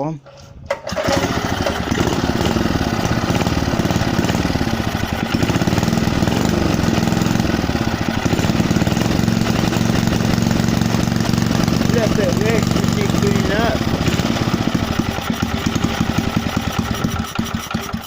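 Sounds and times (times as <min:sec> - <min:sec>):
small petrol engine running: 0:00.7 - 0:18.0.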